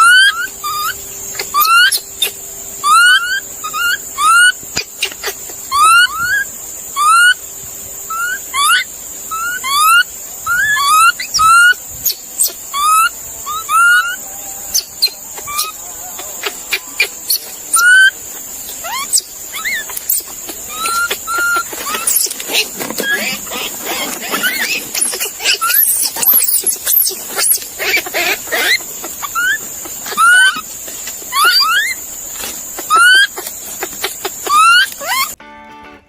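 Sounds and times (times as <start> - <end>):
animal chirps and clicks: 0.0 - 7.4, 8.1 - 35.4
animal squeaky calls: 0.0 - 7.4, 8.1 - 35.4.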